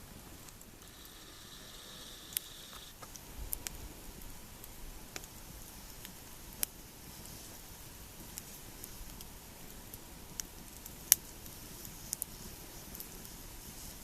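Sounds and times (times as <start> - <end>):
light rain hiss: 0.0 - 14.0.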